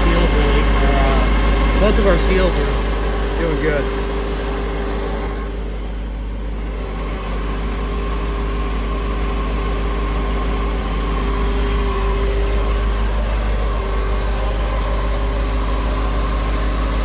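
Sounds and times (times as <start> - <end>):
engine running with steady hum: 0.0 - 17.0
water pump whine: 0.0 - 17.0.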